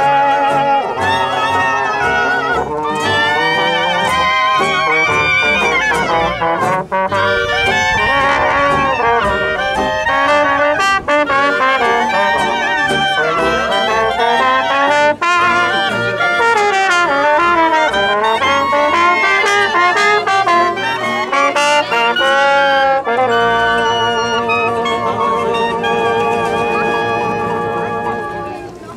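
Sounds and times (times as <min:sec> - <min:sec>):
jazz band with brass: 0:00.0 - 0:28.9.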